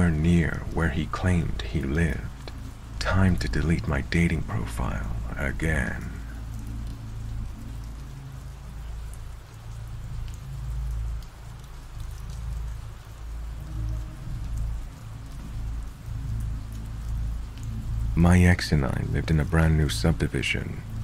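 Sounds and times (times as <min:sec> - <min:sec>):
low humming drone: 0:00.0 - 0:21.0
steady rain falling: 0:00.0 - 0:21.0.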